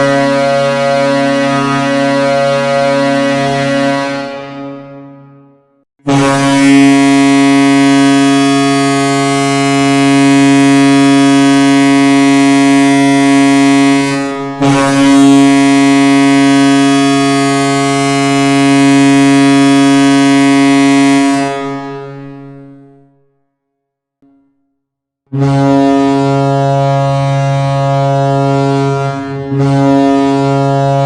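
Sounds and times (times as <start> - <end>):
loud air horn blasts: 0.0 - 5.1, 6.0 - 22.6, 25.3 - 31.0.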